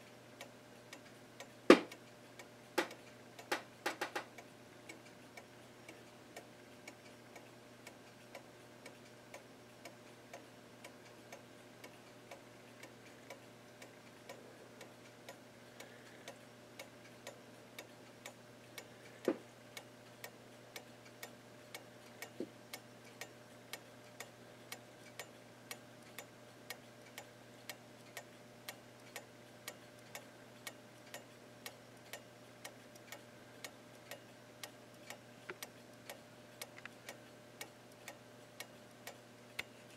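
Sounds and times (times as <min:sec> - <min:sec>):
clock ticking: 0:00.4 - 0:39.8.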